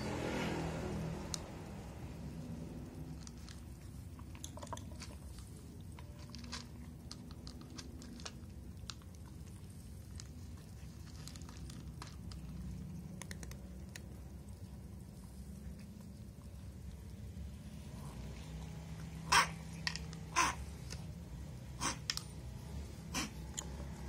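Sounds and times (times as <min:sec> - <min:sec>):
cats crunching dry kibble: 0:00.5 - 0:24.0.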